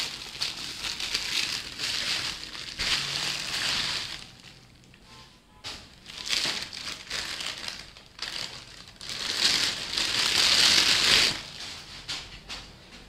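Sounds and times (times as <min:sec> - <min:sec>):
plastic bag crinkling: 0:00.0 - 0:04.9, 0:05.9 - 0:11.6.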